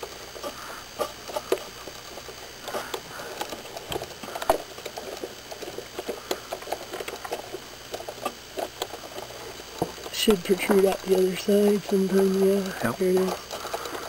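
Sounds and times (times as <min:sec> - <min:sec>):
small irregular clicks: 0:00.0 - 0:14.0.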